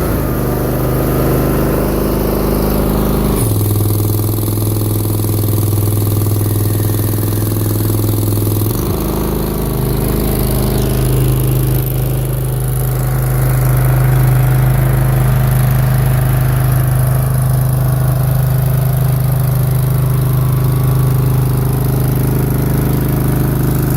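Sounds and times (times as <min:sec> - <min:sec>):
small engine running: 0:00.0 - 0:23.9.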